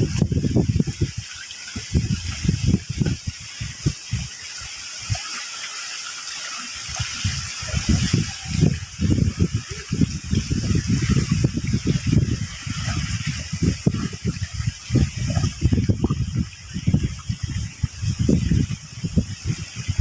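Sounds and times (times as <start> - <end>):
sea water rushing against rocks: 0.0 - 20.0.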